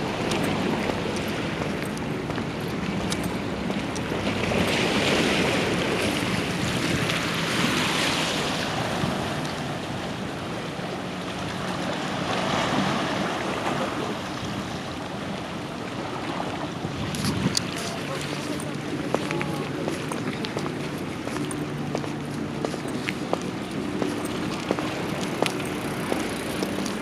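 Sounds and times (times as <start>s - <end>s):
harbour water surging: 0.0s - 27.0s.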